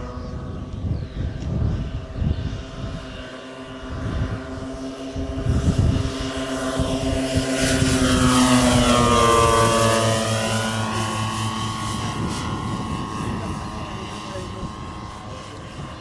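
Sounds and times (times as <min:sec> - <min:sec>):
model plane propellers droning: 0:00.0 - 0:16.0
wind rumbling on microphone: 0:00.0 - 0:16.0.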